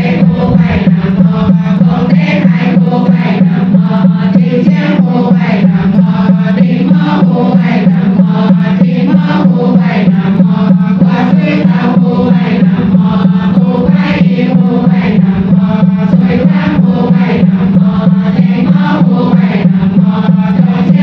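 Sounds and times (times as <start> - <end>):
women chanting in unison: 0.0 - 21.0.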